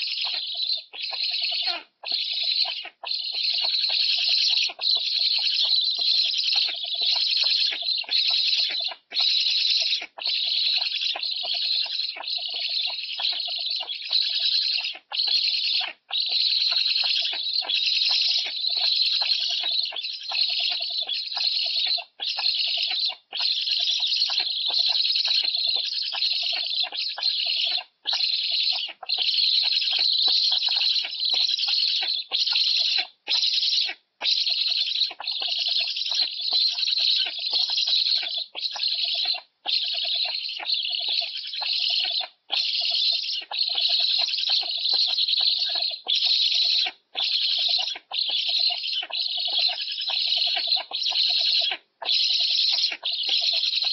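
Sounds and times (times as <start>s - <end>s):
young stork begging calls: 0.0s - 53.9s.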